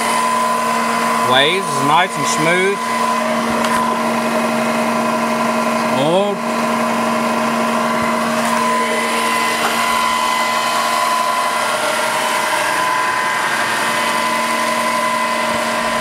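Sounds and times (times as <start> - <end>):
milling machine hum and whine: 0.0 - 16.0.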